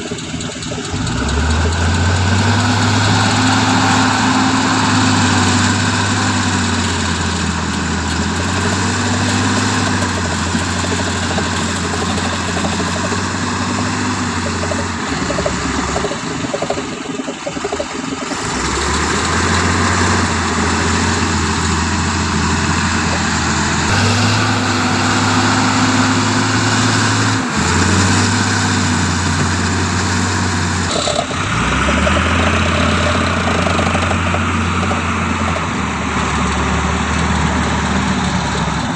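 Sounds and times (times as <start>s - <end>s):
dump truck diesel engine running: 0.0s - 38.9s.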